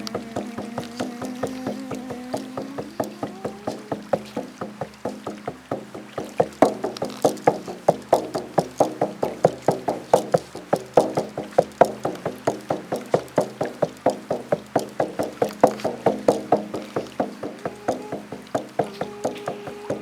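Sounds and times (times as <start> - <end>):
frame drum beating: 0.0 - 20.0.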